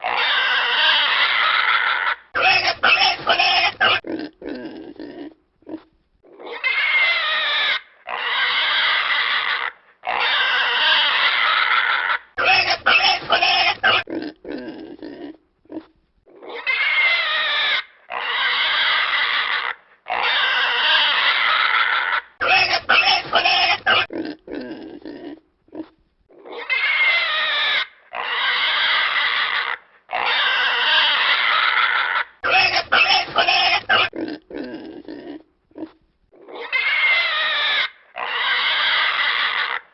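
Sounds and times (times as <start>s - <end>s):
pig squealing and grunting: 0.0s - 39.9s.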